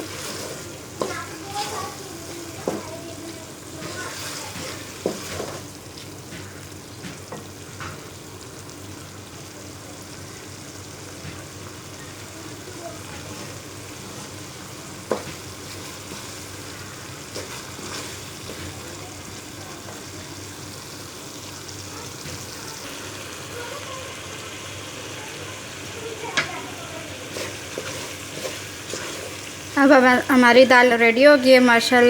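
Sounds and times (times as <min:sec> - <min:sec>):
food bubbling in a pot: 0:00.0 - 0:29.9.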